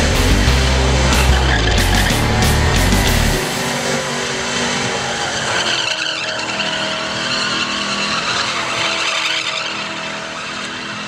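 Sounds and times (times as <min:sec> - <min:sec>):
car engine at high revs: 0:00.0 - 0:11.0
tires skidding and squealing: 0:00.9 - 0:11.0.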